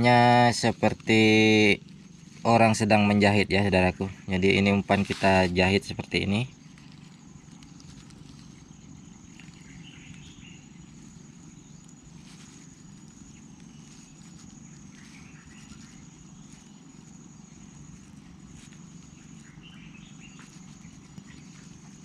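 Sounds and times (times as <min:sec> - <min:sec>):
bird chirps: 0:00.0 - 0:22.0
high-pitched insect drone: 0:00.0 - 0:22.0
low background noise: 0:00.0 - 0:22.0.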